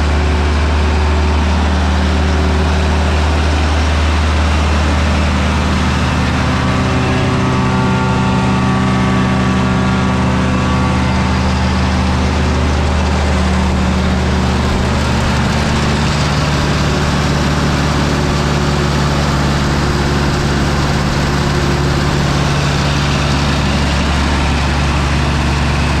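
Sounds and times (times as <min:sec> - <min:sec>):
wood chipper engine running: 0:00.0 - 0:26.0.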